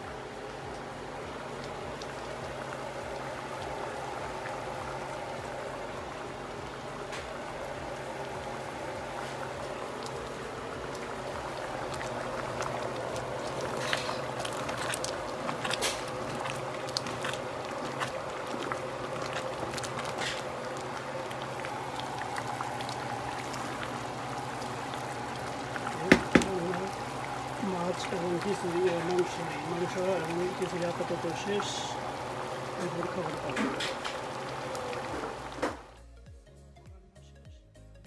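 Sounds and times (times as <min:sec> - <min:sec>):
pot bubbling: 0:00.0 - 0:36.0
low hum: 0:00.0 - 0:37.1.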